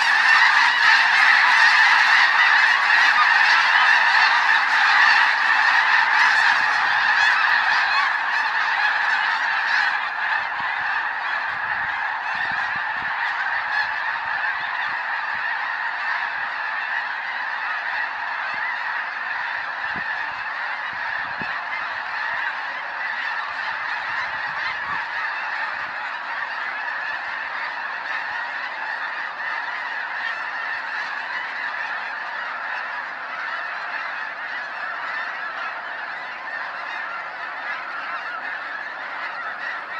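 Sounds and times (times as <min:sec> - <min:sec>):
flock of geese honking: 0:00.0 - 0:39.9.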